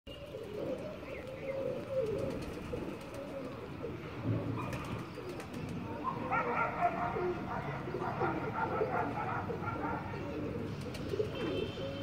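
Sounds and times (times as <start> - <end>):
pigeons cooing: 0.1 - 12.0.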